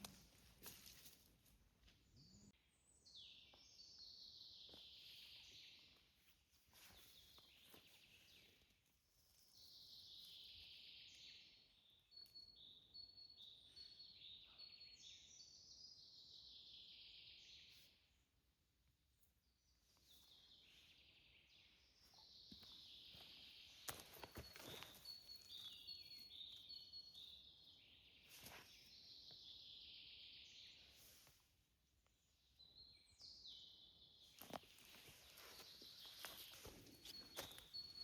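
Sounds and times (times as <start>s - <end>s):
songbird singing: 1.7s - 38.0s.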